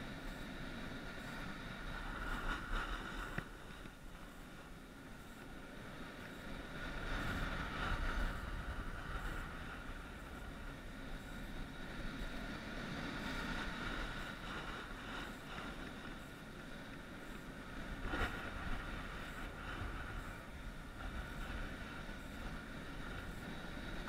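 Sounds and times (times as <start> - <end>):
skis scraping over packed snow: 0.0 - 24.0
wind rushing over microphone: 0.0 - 24.0.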